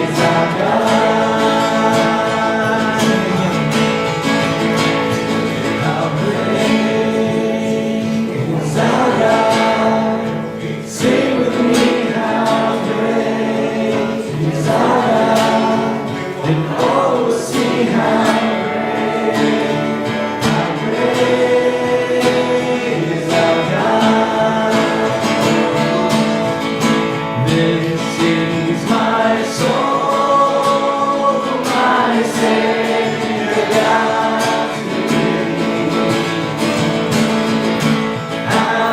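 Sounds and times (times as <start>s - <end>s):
strummed acoustic guitar: 0.0s - 38.9s
voices singing together: 0.0s - 38.9s.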